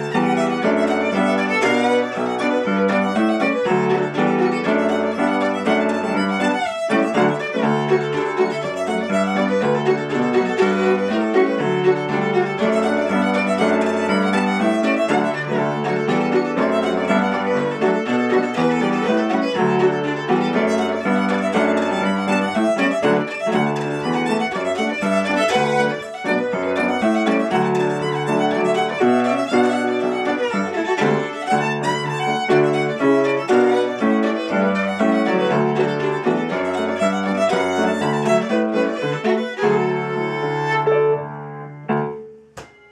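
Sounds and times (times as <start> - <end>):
fiddle playing a reel: 0.0 - 41.2
low accompaniment: 0.0 - 42.9.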